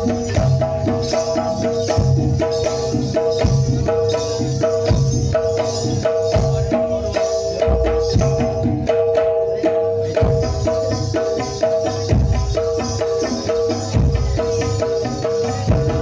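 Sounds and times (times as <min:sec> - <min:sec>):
drum strokes in steady beat: 0:00.0 - 0:16.0.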